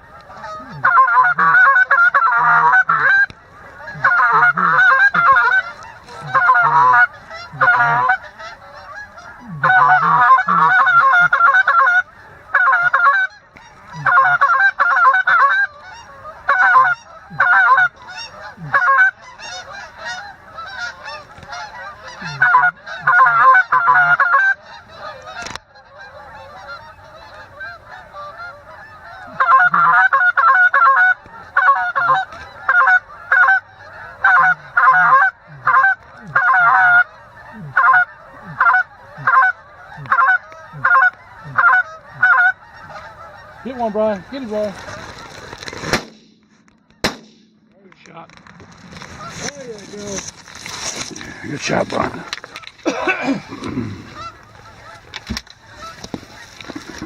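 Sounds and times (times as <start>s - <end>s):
goose call honks and clucks: 0.0s - 48.4s, 49.0s - 57.0s.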